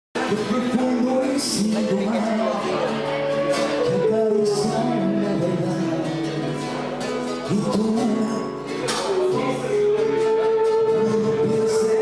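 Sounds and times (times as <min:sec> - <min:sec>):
acoustic guitar strumming: 0:00.2 - 0:12.0
held melody line: 0:00.2 - 0:12.0.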